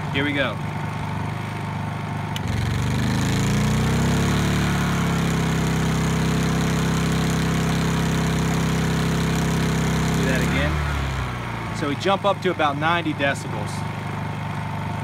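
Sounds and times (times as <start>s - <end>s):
generator engine revving: 0.0s - 15.0s.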